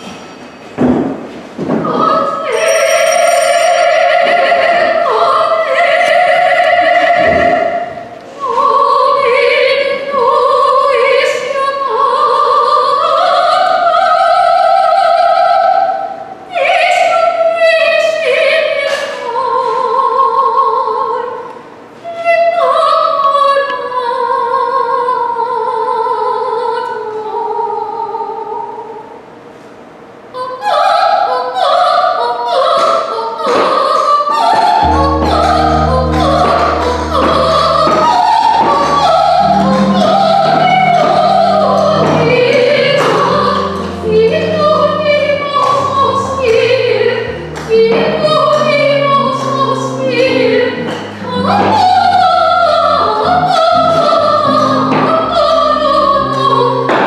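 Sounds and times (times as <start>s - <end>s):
woman singing operatically: 1.7s - 28.9s, 30.4s - 57.0s.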